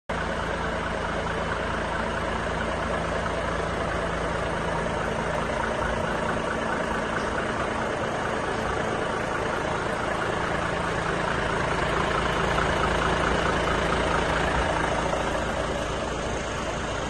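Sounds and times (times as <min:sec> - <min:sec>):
truck diesel engine idling: 0:00.1 - 0:17.0.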